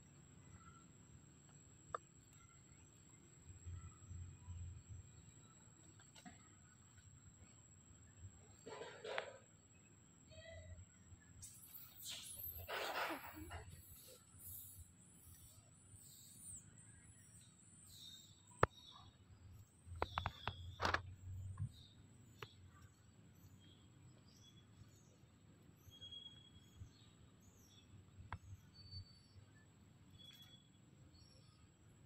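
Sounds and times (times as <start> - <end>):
faint bird chirps: 0.0 - 32.0.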